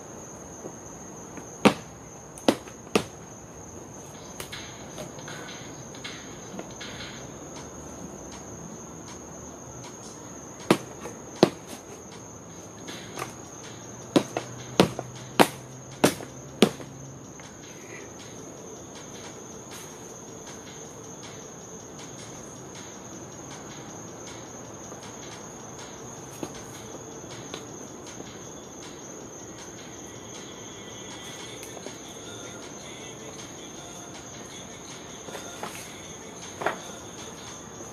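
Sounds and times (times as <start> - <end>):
crickets chirping: 0.0 - 37.9.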